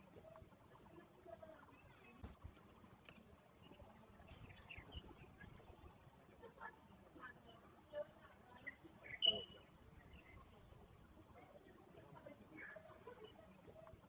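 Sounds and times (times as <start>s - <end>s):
faint high-pitched whine: 0.0s - 14.0s.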